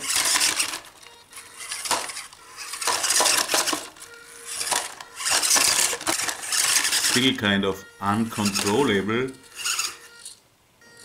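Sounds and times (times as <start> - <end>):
toy truck rattling over pebbles: 0.0 - 7.4, 8.3 - 10.4.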